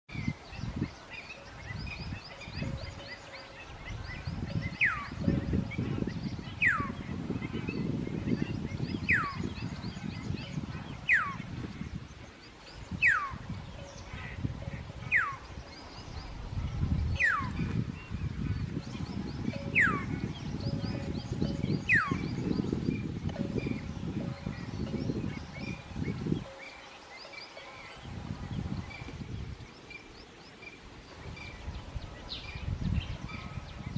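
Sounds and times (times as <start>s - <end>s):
faint twittering of birds: 0.1s - 33.9s.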